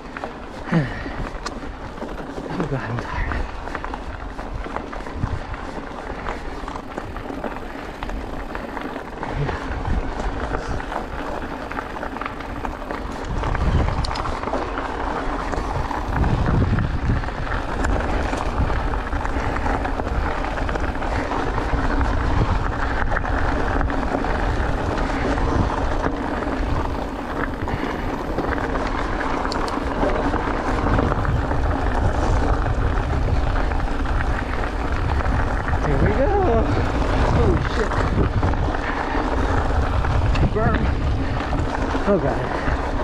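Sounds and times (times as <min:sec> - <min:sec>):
bike rattling over stones: 0:00.0 - 0:43.0
tyres on loose gravel: 0:00.0 - 0:43.0
wind rumble on microphone: 0:00.0 - 0:43.0.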